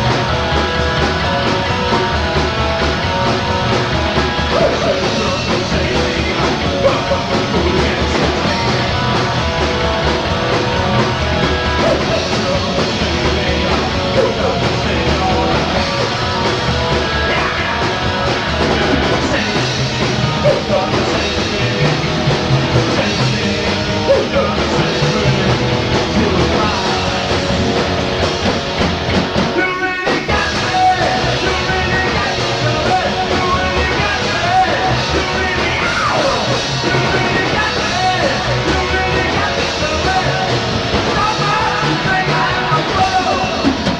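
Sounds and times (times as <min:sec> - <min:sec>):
shouted singing: 0:00.0 - 0:27.6, 0:29.5 - 0:43.9
punk rock band playing: 0:00.0 - 0:43.9.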